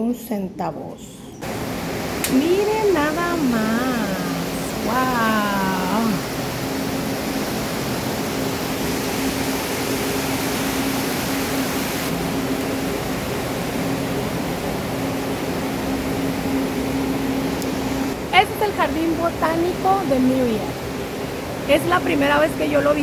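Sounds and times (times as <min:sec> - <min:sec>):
low hum: 0:01.4 - 0:23.0
steady rushing noise: 0:01.4 - 0:23.0.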